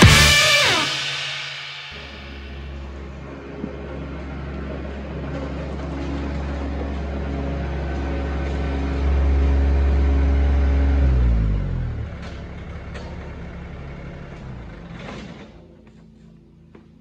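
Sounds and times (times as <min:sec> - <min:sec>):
engine winding down: 0:00.0 - 0:16.1
mower diesel engine running: 0:01.9 - 0:16.0.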